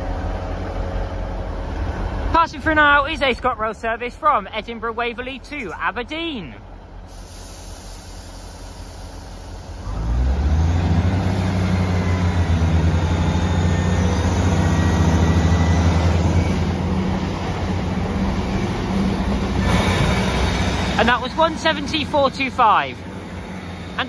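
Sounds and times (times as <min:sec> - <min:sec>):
diesel train passing: 0:00.0 - 0:24.0.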